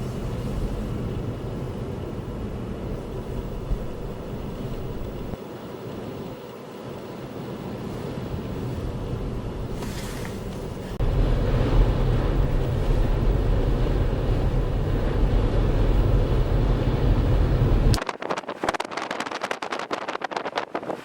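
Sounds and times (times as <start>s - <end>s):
blizzard wind buffeting microphone: 0.0s - 21.0s.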